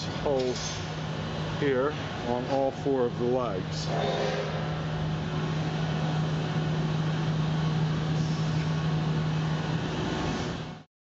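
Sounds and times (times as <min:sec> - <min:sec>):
low mechanical hum: 0:00.0 - 0:10.9.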